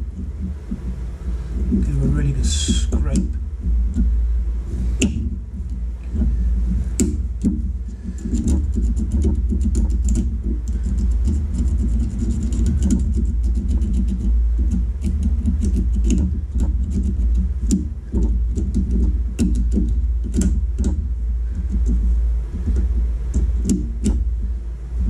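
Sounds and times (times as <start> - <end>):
air compressor droning: 0.0 - 25.0.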